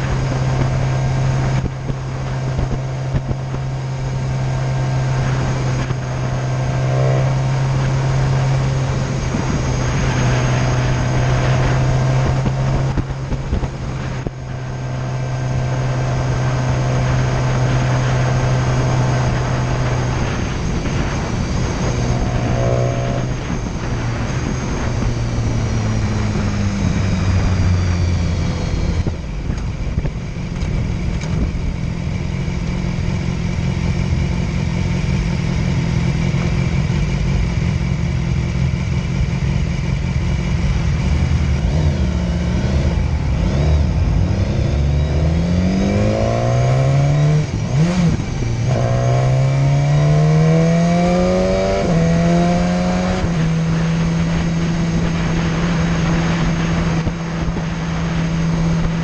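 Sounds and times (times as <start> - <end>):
motorcycle engine running: 0.0 - 59.0
rough noisy vehicle: 0.0 - 59.0
wind and road rush: 0.0 - 59.0.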